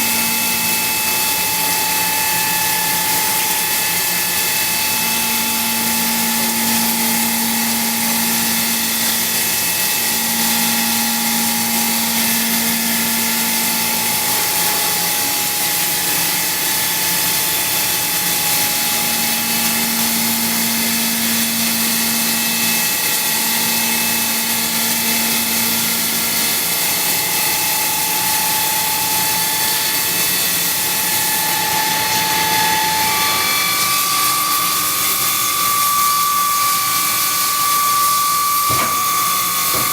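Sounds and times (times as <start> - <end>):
cnc machine cutting metal: 0.0 - 39.9.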